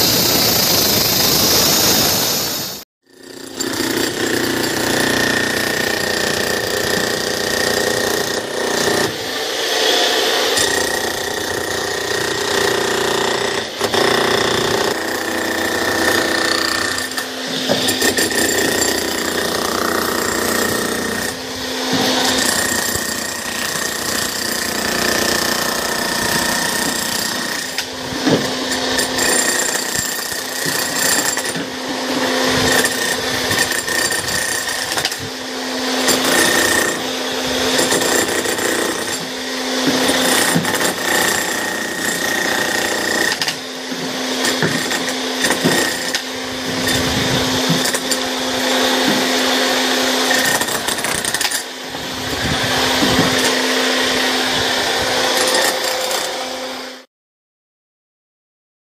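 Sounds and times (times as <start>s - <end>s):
slab cutter grinding: 3.0s - 57.1s.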